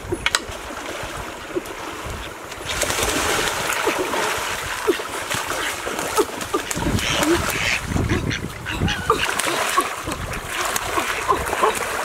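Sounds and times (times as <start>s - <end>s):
heavy splashing of river water: 0.0s - 12.0s.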